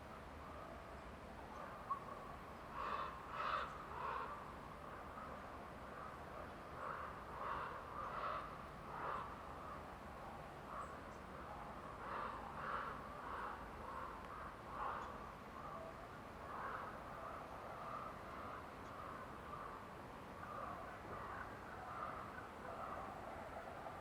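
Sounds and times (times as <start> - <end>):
forest background hiss: 0.0 - 24.0.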